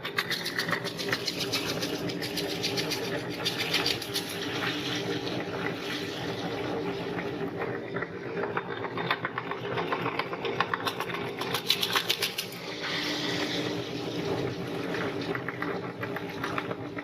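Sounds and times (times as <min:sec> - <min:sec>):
meat grinder motor hum: 0:00.0 - 0:17.0.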